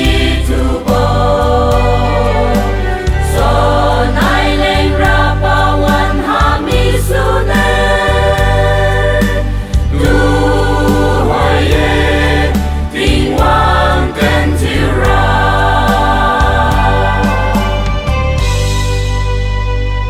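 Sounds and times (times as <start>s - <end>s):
women's choir singing: 0.0s - 17.8s
low instrumental backing: 0.0s - 20.0s.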